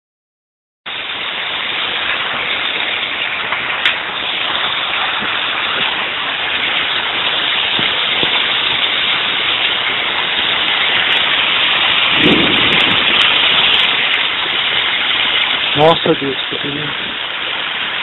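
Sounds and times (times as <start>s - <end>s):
heavy rain pouring in wind: 0.9s - 18.0s.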